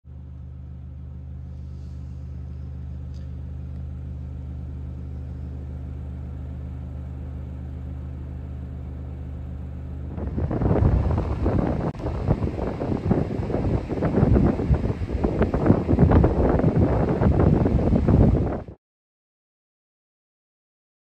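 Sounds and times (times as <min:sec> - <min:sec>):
car engine humming: 0:00.1 - 0:18.8.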